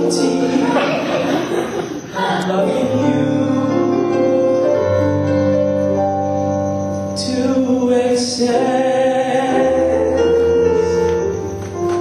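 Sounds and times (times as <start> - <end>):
piano playing held chords: 0.0 - 12.0.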